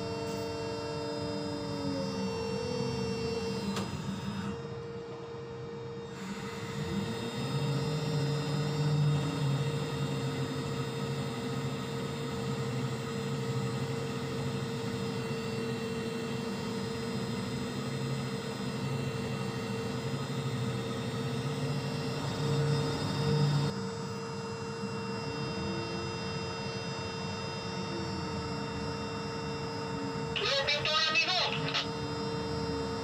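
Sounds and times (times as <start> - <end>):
deck crane machinery humming: 0.0 - 33.0
mid-pitched machine whine: 0.0 - 33.0.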